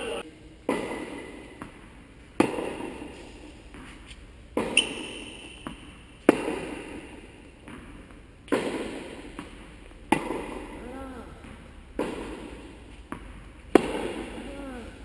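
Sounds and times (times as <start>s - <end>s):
tennis racket hitting ball: 0.7s - 14.6s.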